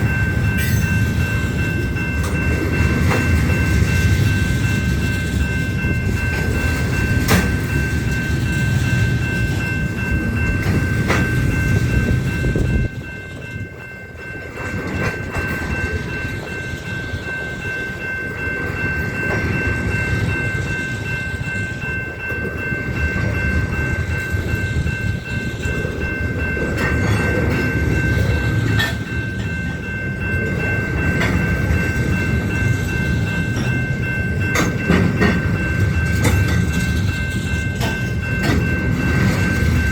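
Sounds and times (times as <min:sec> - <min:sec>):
train cars rumbling: 0:00.0 - 0:39.9.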